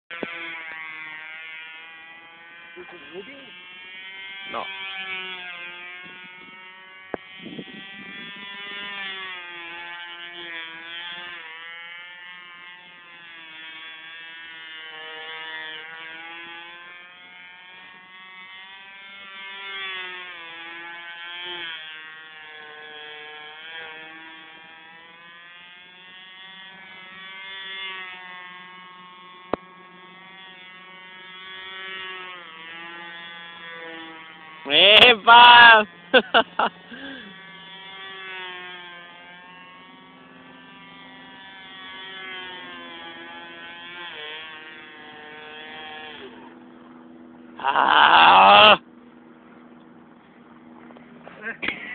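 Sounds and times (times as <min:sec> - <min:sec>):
model plane engine buzzing: 0:00.1 - 0:51.9.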